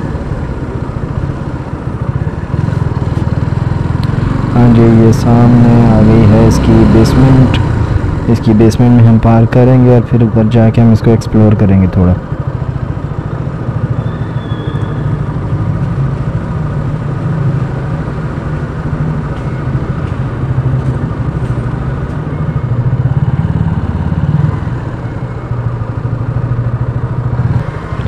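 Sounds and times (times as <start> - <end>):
motorcycle engine running: 0.0 - 9.4, 12.2 - 28.0.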